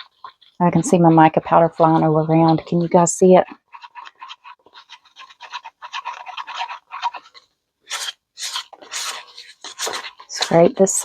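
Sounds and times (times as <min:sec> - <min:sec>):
stir stick scraping resin in cup: 0:00.0 - 0:11.0.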